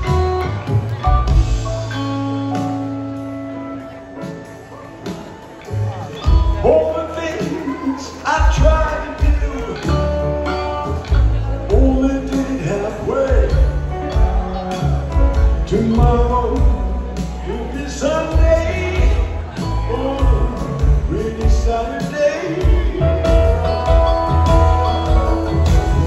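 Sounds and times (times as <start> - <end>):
pedal steel guitar: 0.0 - 8.0, 9.2 - 26.0
bass guitar: 0.0 - 26.0
piano: 0.0 - 26.0.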